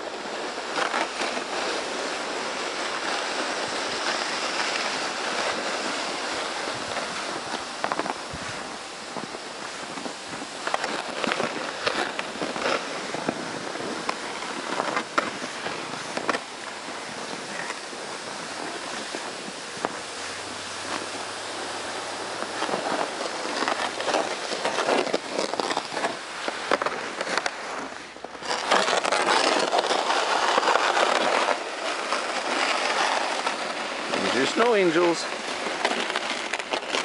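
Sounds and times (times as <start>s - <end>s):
crunches in snow: 0.0s - 37.0s
plastic sled scraping over snow: 0.0s - 37.0s.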